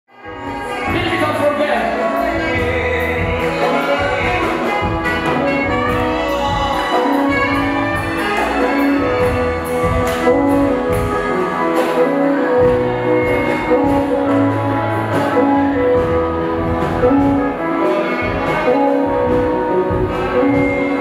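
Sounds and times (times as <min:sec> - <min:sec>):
band playing gospel song: 0:00.1 - 0:21.0
saxophone melody: 0:00.1 - 0:21.0.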